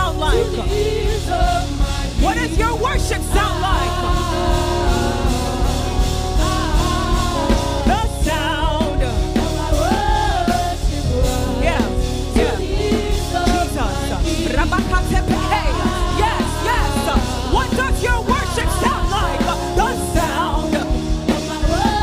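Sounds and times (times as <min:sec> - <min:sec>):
band with drums: 0:00.0 - 0:22.0
woman singing with vibrato: 0:00.0 - 0:22.0.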